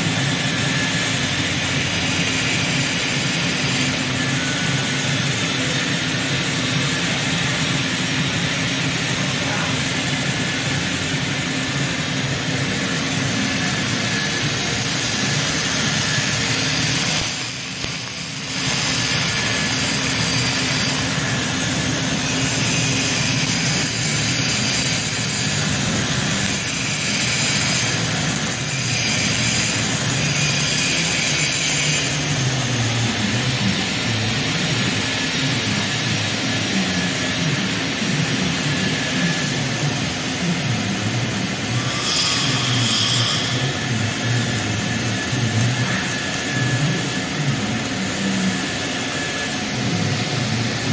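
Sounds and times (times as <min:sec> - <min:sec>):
welding arc hissing: 0:00.0 - 0:50.9.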